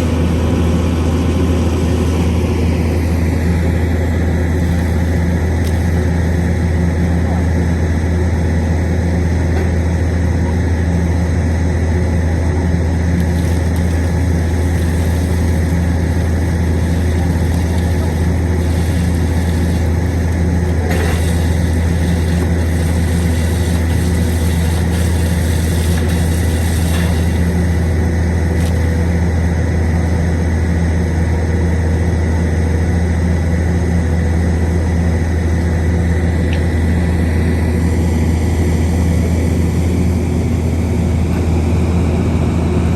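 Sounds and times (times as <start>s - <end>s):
heavy machine engine droning: 0.0s - 42.9s.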